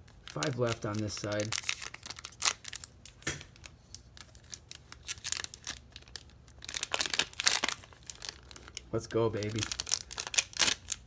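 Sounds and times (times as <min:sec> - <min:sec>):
foil wrapper crinkling: 0:00.0 - 0:11.0
foil wrapper tearing: 0:00.0 - 0:11.0.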